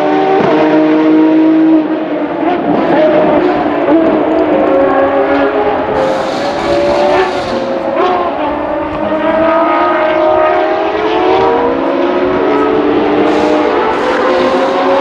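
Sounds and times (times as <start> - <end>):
racing car engine accelerating: 0.0 - 15.0.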